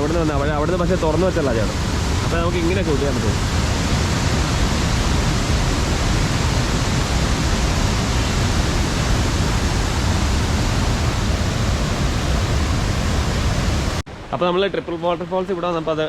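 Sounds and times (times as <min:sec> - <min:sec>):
waterfall rushing: 0:00.0 - 0:14.3.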